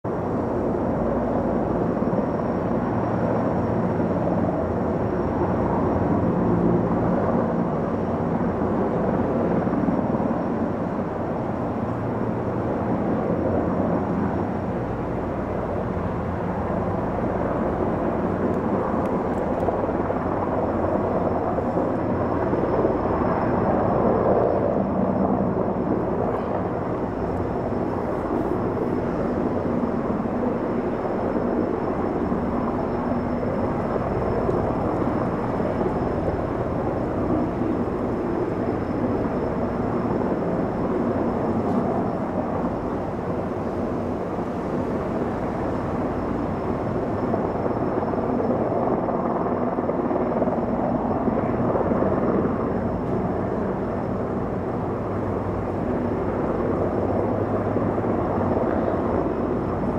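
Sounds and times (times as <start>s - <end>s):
helicopter rotor drone: 0.0s - 59.9s
faint high whine: 0.2s - 59.9s.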